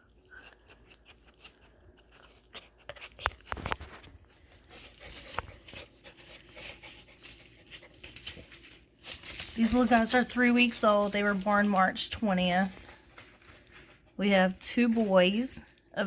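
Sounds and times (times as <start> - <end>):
dogs rustling: 0.1 - 16.0.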